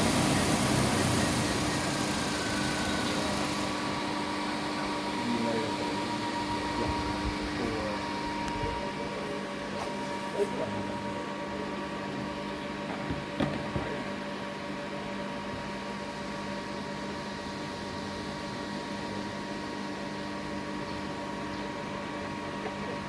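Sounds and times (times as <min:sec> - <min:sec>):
transformer electrical hum: 0:00.0 - 0:23.0.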